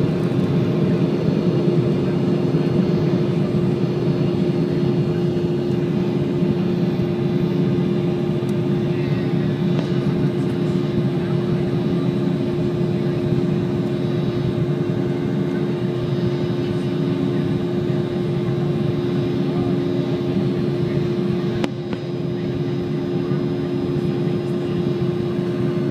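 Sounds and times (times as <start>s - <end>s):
airliner cabin engine drone: 0.0s - 25.9s.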